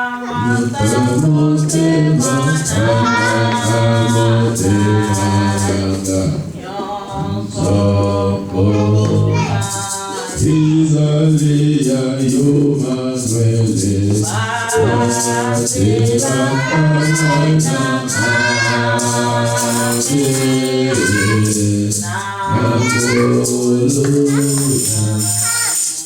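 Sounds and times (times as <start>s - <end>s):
choir singing a cappella: 0.0s - 26.0s.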